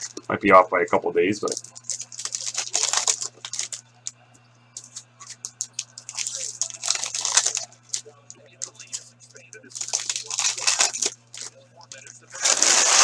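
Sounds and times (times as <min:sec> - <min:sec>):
cards being shuffled: 0:00.0 - 0:00.3, 0:01.4 - 0:04.2, 0:04.8 - 0:09.1, 0:09.7 - 0:13.0
foil wrappers crinkling: 0:00.0 - 0:04.2, 0:04.8 - 0:13.0.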